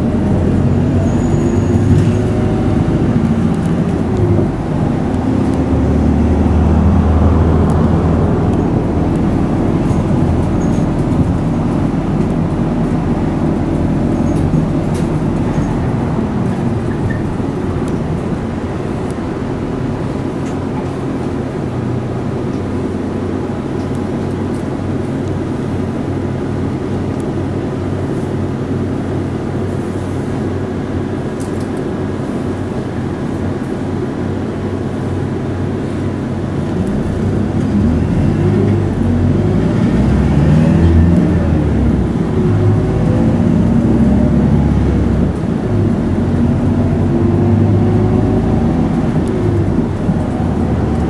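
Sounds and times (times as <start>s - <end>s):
bus diesel engine: 0.0s - 51.0s.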